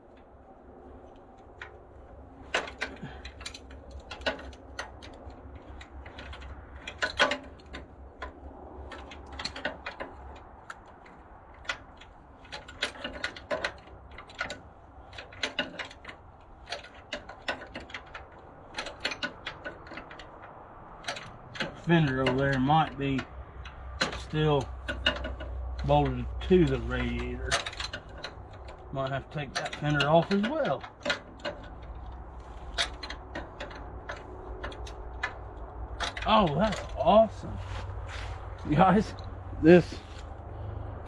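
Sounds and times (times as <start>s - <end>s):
low steady hum: 0.0s - 41.0s
hand tools clanking on metal: 1.0s - 40.4s.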